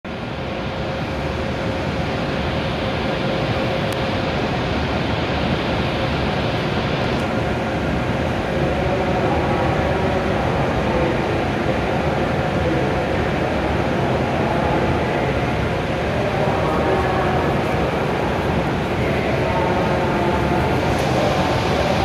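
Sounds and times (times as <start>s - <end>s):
train rumble and hiss: 0.1s - 22.0s.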